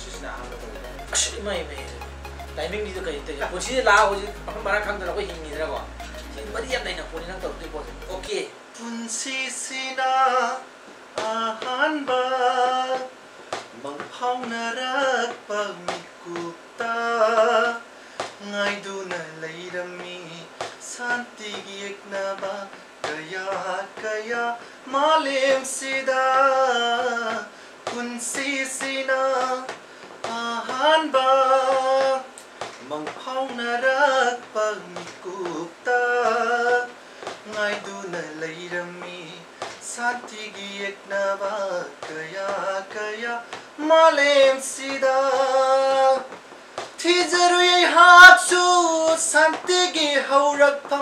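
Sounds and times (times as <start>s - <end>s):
man singing slow melody: 0.0s - 46.4s, 47.0s - 51.0s.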